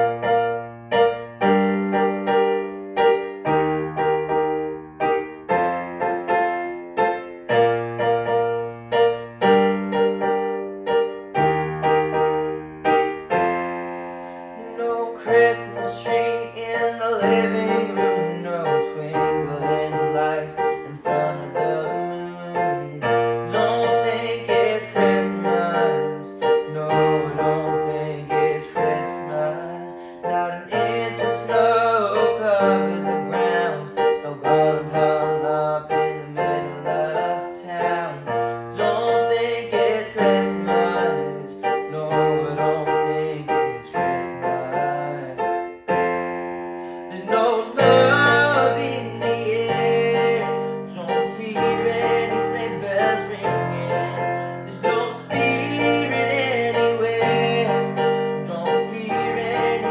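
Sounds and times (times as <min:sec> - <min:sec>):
piano chords over bass line: 0:00.0 - 0:59.9.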